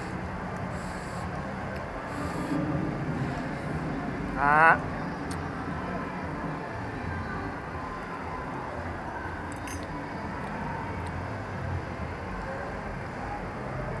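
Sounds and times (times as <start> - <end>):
hubbub of voices: 0.0 - 14.0.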